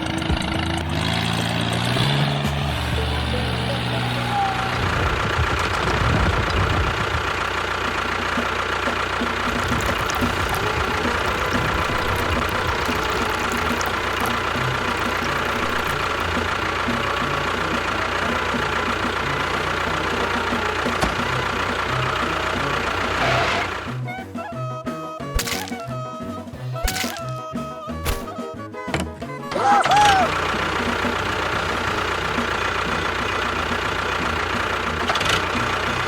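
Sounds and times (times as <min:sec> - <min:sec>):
music: 0:00.0 - 0:04.8, 0:08.3 - 0:36.0.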